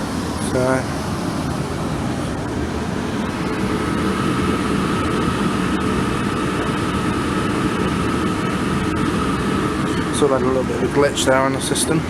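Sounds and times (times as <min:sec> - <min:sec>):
thin steady whine: 0:00.0 - 0:12.0
train carriage hum and rumble: 0:00.0 - 0:12.0.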